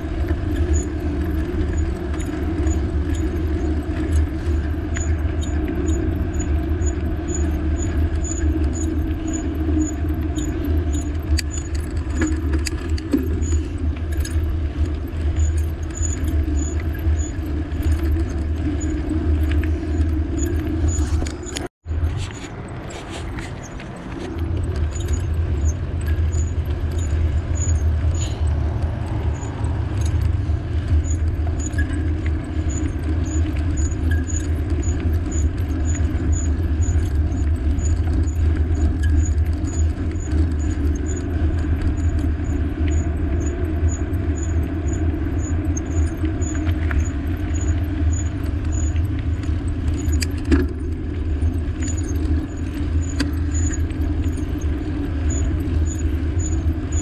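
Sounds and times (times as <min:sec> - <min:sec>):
bike rumbling on road: 0:00.0 - 0:57.0.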